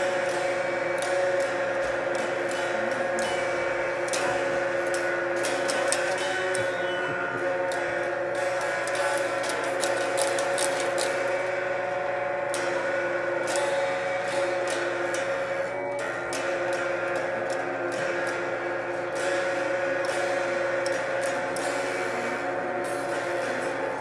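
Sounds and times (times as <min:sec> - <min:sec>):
electric guitar strumming: 0:00.0 - 0:24.0.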